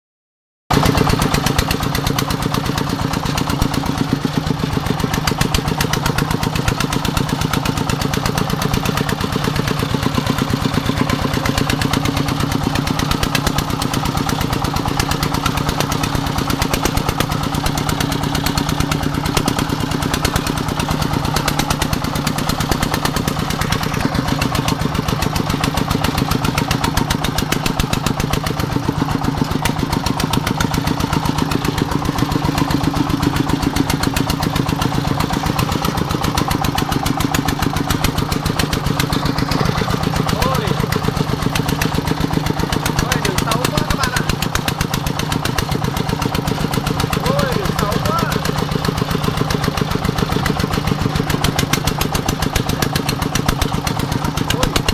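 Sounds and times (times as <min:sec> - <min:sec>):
single-cylinder diesel engine running: 0:00.7 - 0:54.9.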